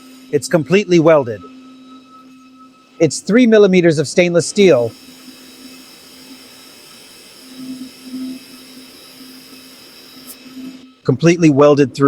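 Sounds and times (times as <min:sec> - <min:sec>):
laser welder humming: 0:00.0 - 0:11.8.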